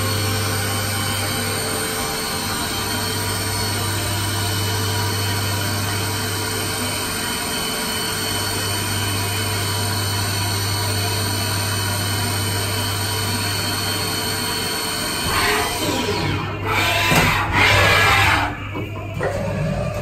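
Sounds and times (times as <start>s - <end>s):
high machine whine: 0.0s - 20.0s.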